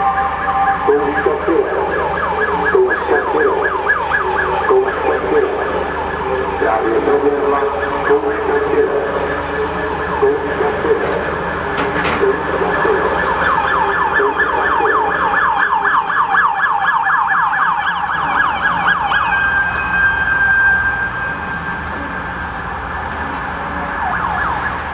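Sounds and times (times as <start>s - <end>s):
electronic warning siren: 0.0s - 24.9s.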